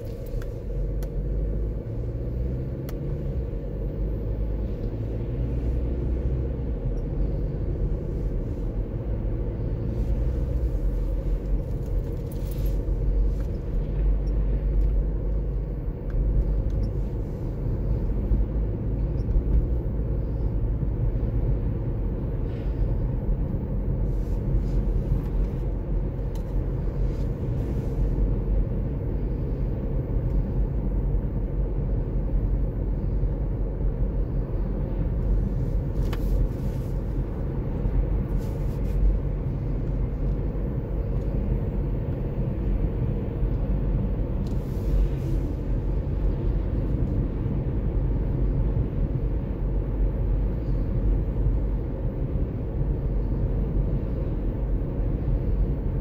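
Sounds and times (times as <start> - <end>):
car driving rumble: 0.0 - 56.0.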